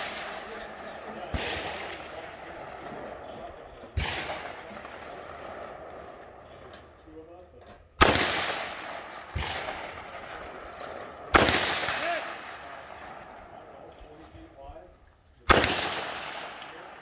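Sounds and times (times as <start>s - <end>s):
rifle gunshots echoing: 0.0s - 7.1s, 8.0s - 14.0s, 15.4s - 17.0s.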